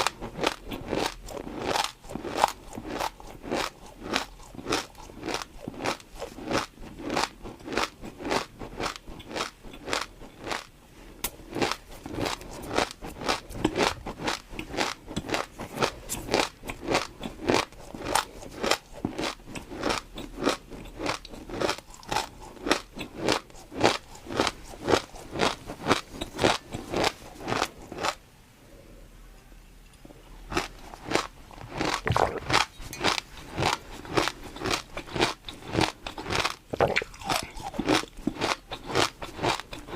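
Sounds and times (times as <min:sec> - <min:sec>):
chewing crunchy food: 0:00.0 - 0:28.2, 0:30.4 - 0:39.9.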